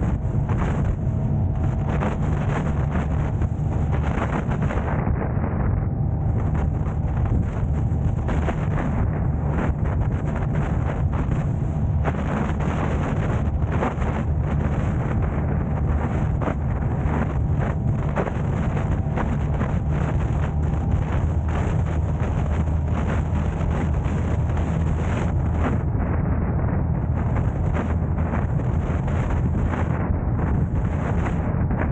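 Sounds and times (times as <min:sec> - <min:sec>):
car engine and road noise: 0:00.0 - 0:31.9
wind buffeting microphone: 0:00.0 - 0:31.9.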